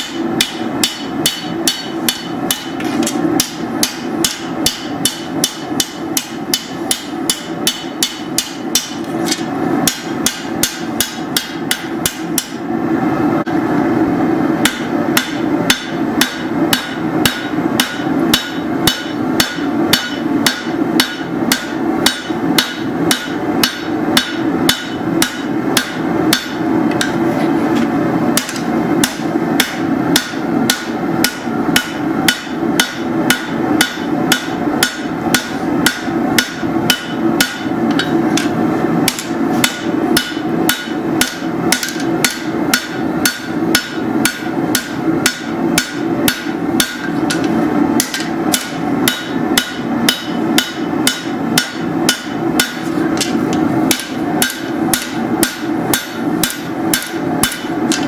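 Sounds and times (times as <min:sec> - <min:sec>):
hammer striking steel on anvil: 0:00.0 - 0:12.7, 0:14.6 - 0:58.0
steady low hum: 0:00.0 - 0:58.0.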